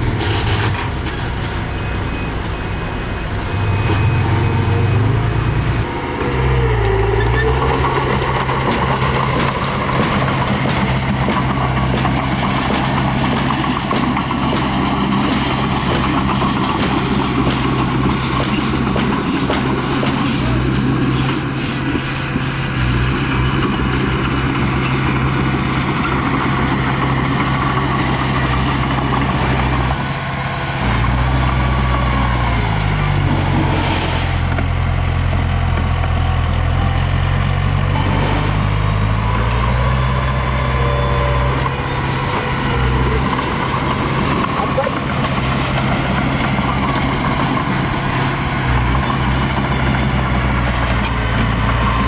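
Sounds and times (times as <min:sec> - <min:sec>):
heavy machinery diesel engine: 0:00.0 - 0:52.0.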